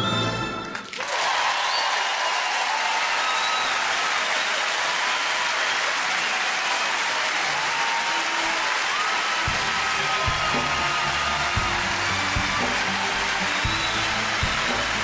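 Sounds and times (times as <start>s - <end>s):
theatre audience applauding: 0.0s - 15.0s.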